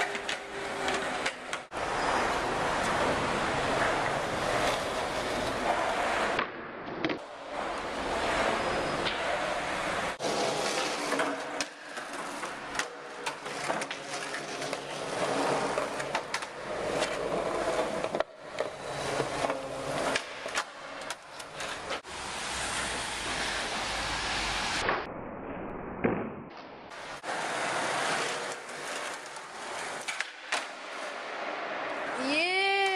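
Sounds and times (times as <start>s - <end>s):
skateboard wheels on concrete: 0.0s - 25.0s, 26.9s - 32.9s.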